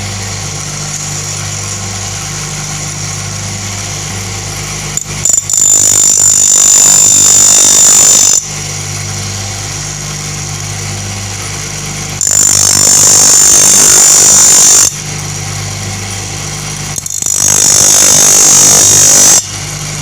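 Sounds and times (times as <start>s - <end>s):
grinder motor humming: 0.0s - 20.0s.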